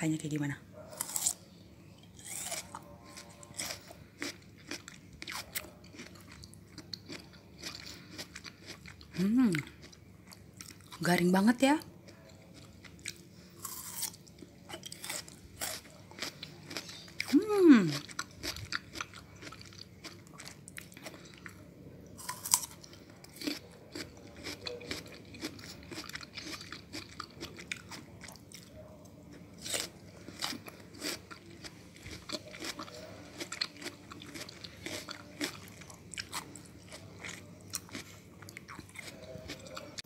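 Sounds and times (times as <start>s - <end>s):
crunchy melon chewing: 0.8s - 11.0s, 12.1s - 40.0s.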